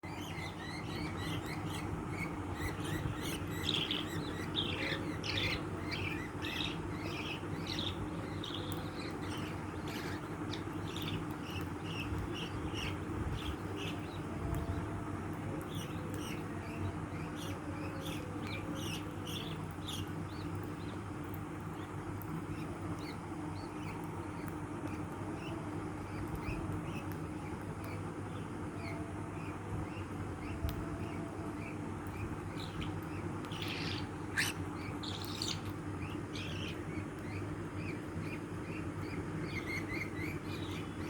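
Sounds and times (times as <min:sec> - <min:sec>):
small birds chirping and squawking: 0:00.0 - 0:41.0
steady low hum: 0:00.0 - 0:41.0.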